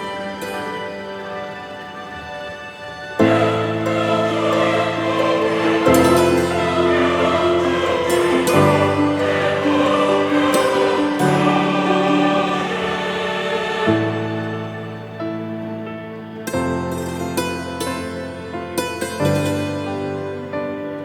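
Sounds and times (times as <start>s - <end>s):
choir singing sustained chords: 0.0s - 21.0s.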